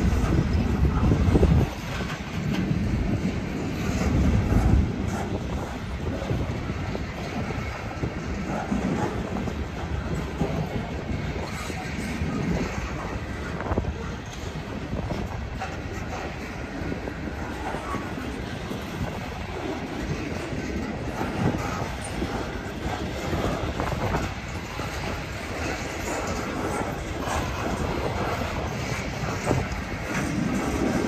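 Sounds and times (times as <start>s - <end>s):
freight train wheels rumbling: 0.0s - 31.0s
wheels clacking over rail joints: 0.0s - 31.0s.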